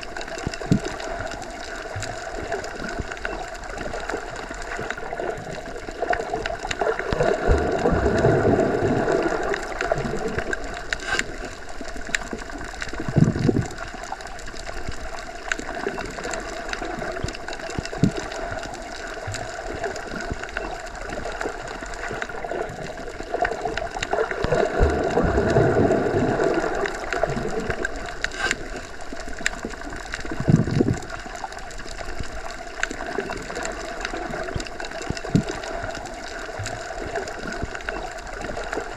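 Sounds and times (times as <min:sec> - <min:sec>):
underwater moving water: 0:00.0 - 0:38.9.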